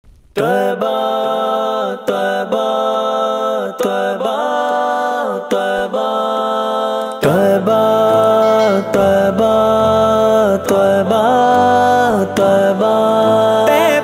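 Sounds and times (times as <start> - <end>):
voices singing long notes: 0.4 - 14.0.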